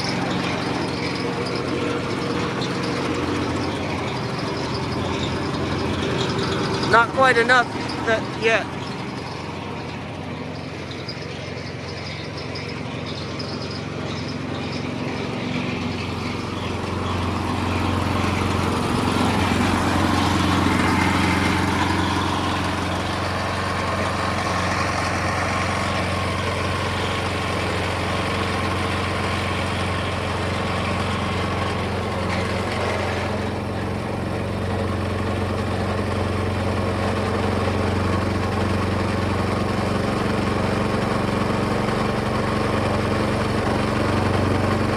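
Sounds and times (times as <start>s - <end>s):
small gasoline engine running: 0.0s - 44.9s.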